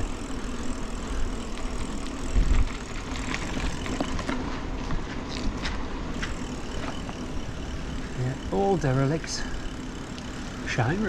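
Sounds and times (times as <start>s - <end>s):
bike clicks and rattles: 0.0s - 11.0s
mountain bike riding rumble: 0.0s - 11.0s.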